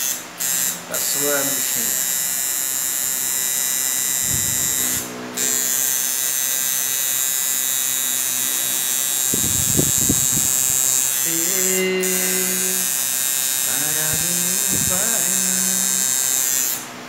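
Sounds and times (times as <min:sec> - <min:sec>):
tattoo machine buzzing: 0:00.0 - 0:17.0.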